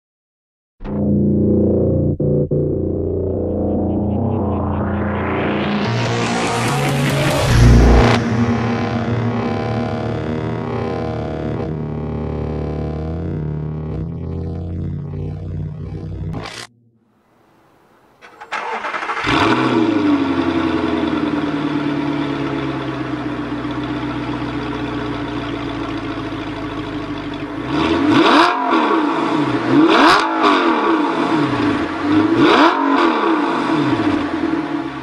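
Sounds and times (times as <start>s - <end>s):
car engine revving: 1.4s - 35.0s
car engine starting and idling: 2.8s - 35.0s.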